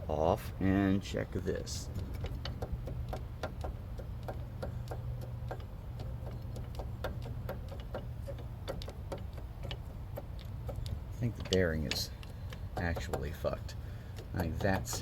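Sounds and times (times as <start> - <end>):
wheel hub clicking and knocking: 1.6 - 15.0.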